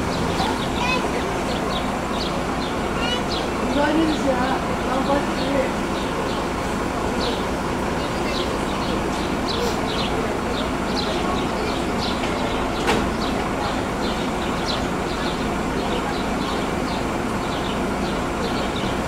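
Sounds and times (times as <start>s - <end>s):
crane engine running: 0.0s - 19.0s.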